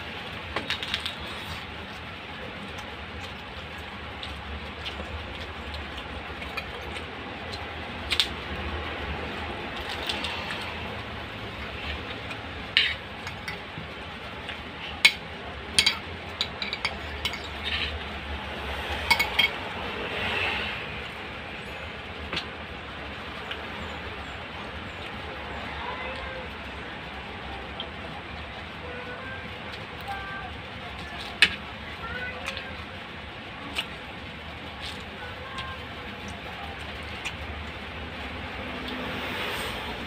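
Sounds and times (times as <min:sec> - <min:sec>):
steady background noise: 0:00.0 - 0:40.0.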